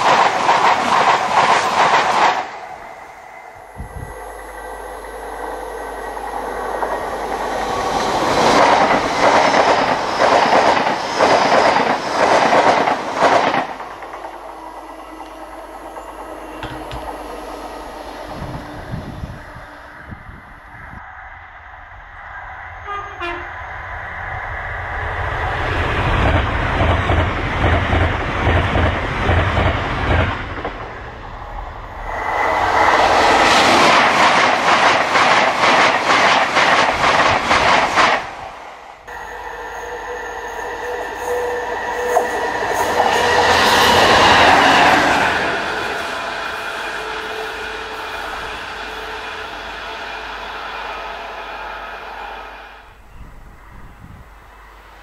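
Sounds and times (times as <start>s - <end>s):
diesel locomotive passing: 0.0s - 55.0s
train passing at speed: 0.0s - 55.0s.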